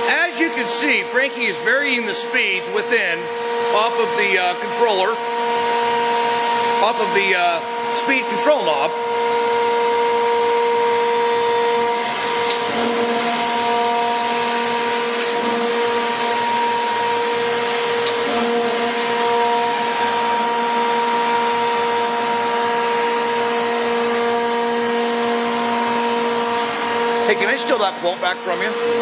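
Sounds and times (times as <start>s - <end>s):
grinder machine whine: 0.0s - 29.0s.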